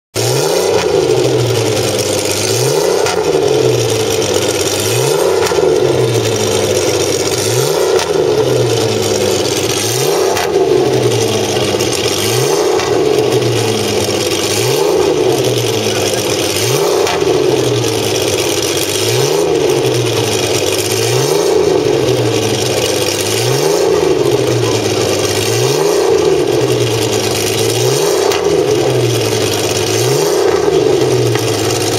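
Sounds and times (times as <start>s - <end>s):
race car engine revving: 0.1s - 31.9s.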